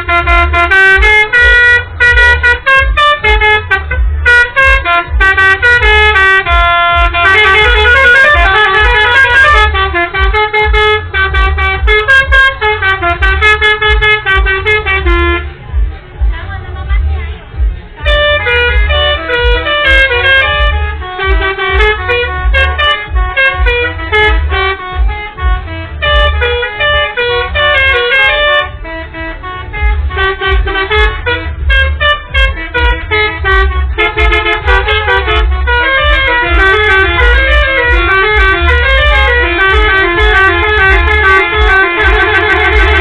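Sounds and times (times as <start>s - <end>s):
musical air horns: 0.0s - 43.0s.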